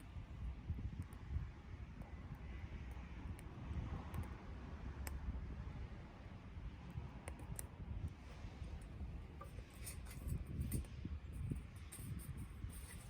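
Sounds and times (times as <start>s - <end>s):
low rumble of stove: 0.0s - 13.0s.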